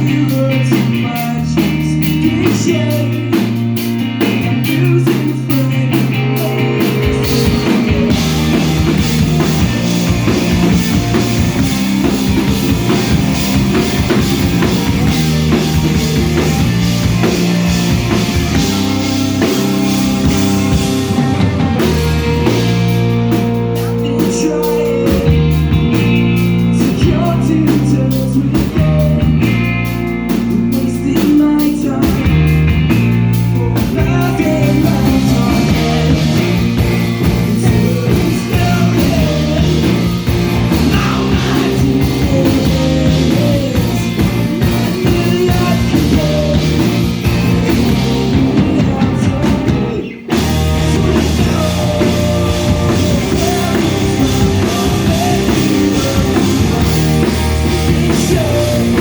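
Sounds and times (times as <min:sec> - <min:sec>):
person singing: 0:00.0 - 0:03.6, 0:04.2 - 0:11.6, 0:12.6 - 0:29.6, 0:30.5 - 0:32.6, 0:33.6 - 0:59.0
rock band playing live: 0:00.0 - 0:59.0.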